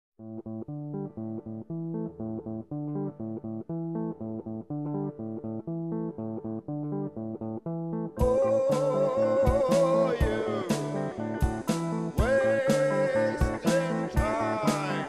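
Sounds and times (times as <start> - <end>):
bass line: 0.2 - 15.0
plucked guitar riff: 0.2 - 15.0.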